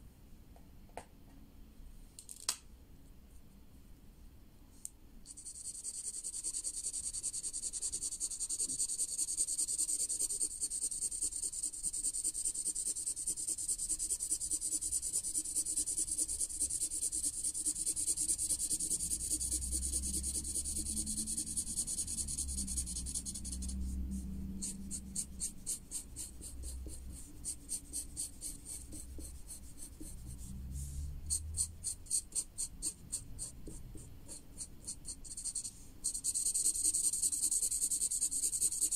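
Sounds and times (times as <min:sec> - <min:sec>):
marker scribbling on paper: 0:05.3 - 0:38.9.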